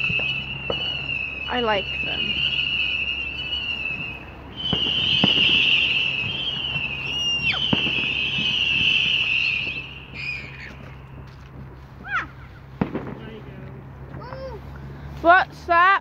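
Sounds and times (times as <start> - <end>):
fireworks whistling: 0.0 - 13.6
distant firework pops: 0.0 - 14.5.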